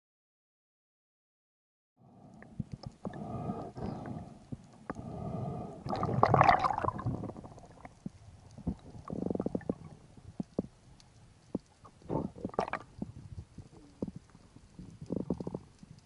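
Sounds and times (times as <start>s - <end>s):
sharp underwater clicks: 2.3s - 16.0s
underwater gurgling: 2.3s - 16.0s.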